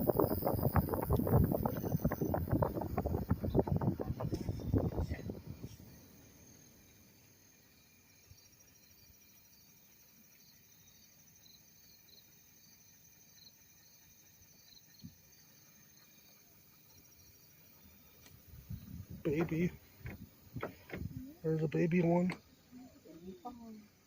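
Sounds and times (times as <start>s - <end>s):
high insect chirps: 0.0s - 24.0s
insects trilling: 0.0s - 24.0s.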